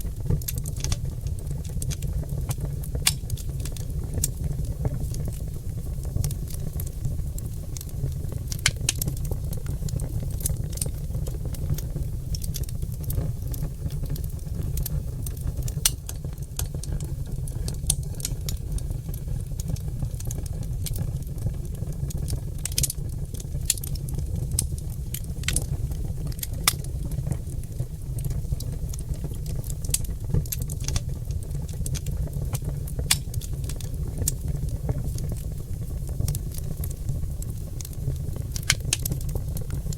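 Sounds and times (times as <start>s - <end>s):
fire low rumble: 0.0s - 39.9s
log fire crackling and popping: 0.0s - 39.9s.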